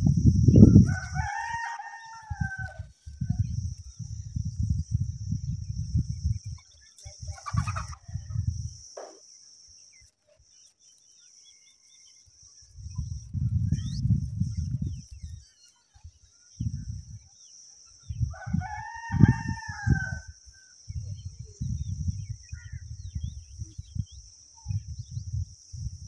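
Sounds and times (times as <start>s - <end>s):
wind buffeting microphone: 0.0s - 8.8s, 12.6s - 17.3s, 18.0s - 26.0s.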